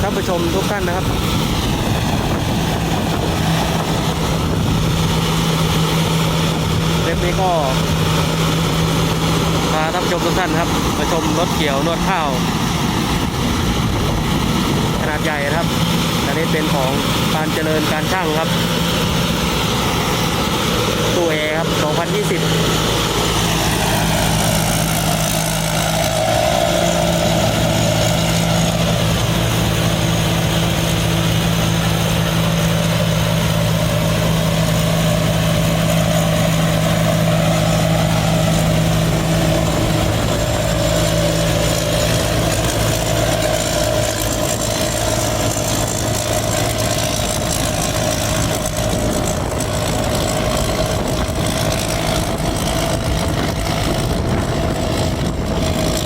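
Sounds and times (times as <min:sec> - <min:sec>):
combine harvester engine running: 0:00.0 - 0:56.0
deep low hum: 0:00.0 - 0:56.0
wavering mid-pitched drone: 0:00.0 - 0:56.0.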